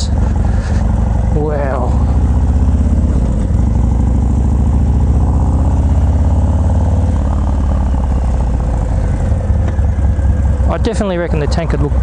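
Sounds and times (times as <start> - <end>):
motorcycle engine idling loudly: 0.0 - 12.0.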